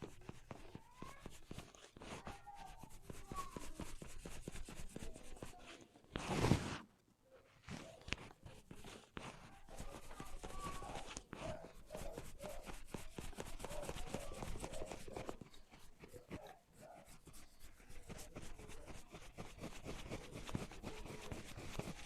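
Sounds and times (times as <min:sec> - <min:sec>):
hands rubbing through hair: 0:00.0 - 0:06.8, 0:07.6 - 0:22.0.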